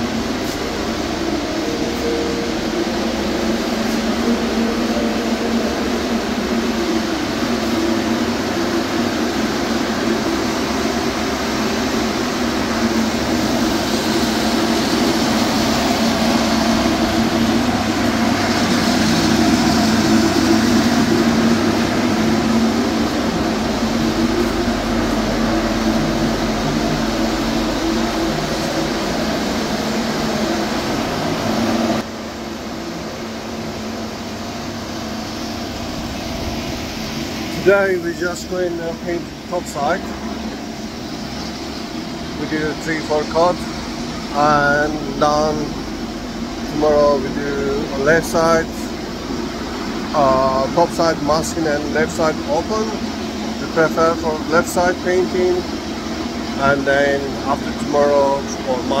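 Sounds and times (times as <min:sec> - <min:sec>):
ventilation fans droning: 0:00.0 - 0:59.0.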